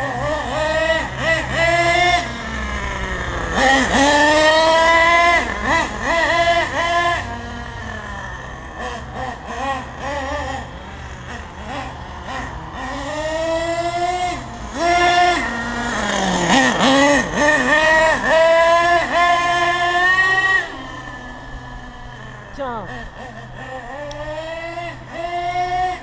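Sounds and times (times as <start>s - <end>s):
model truck engine revving: 0.0s - 26.0s.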